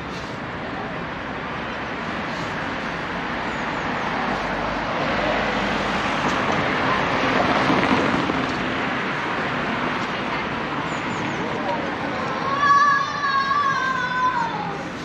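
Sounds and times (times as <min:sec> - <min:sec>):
car passing: 0:00.0 - 0:15.0.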